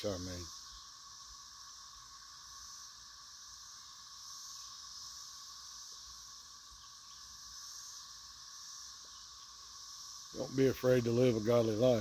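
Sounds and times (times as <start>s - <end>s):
insects high buzz: 0.0s - 12.0s
insects low trill: 0.0s - 12.0s.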